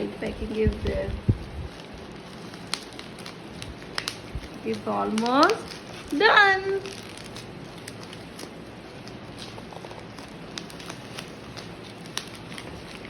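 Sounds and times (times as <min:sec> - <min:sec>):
bubble wrap crackling: 0:00.0 - 0:13.0.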